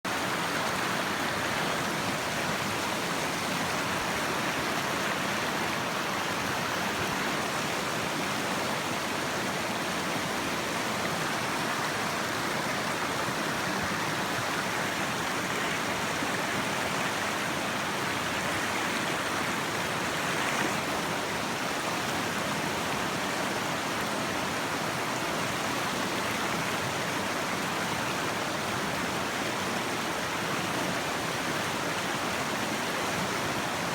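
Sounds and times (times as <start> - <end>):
whitewater rushing through rapid: 0.1 - 33.9.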